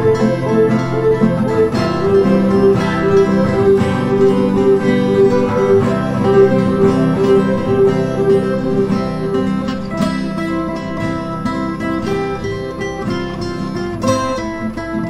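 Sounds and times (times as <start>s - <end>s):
guitar picking repeating notes: 0.0s - 15.0s.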